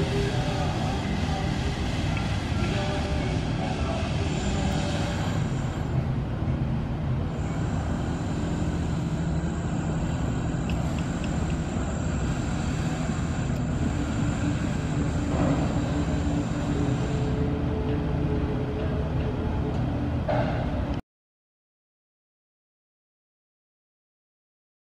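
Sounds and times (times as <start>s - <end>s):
faint high whine: 0.0s - 20.5s.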